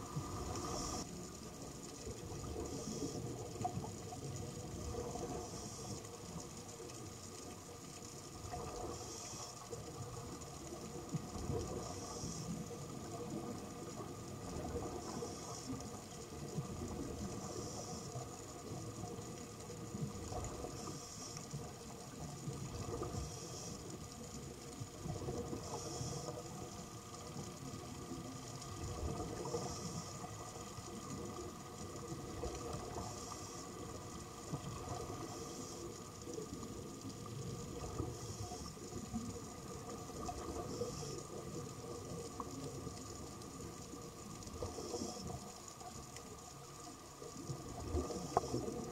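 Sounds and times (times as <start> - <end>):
regulator hiss: 0.0 - 48.9.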